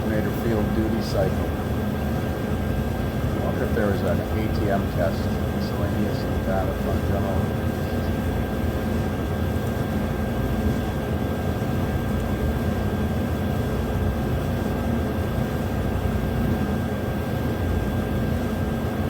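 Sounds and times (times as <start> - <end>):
faint machine whine: 0.0 - 19.0.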